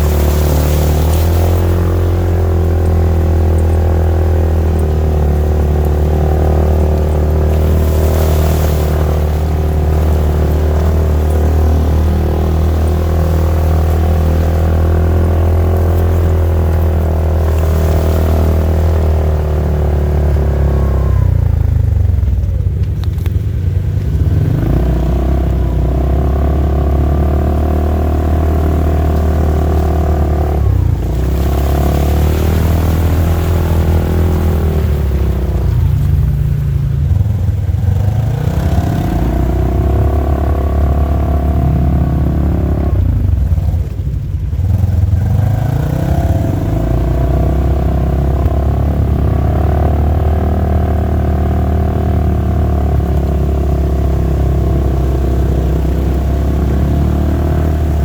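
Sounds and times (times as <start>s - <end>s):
side-by-side engine running: 0.0s - 58.0s.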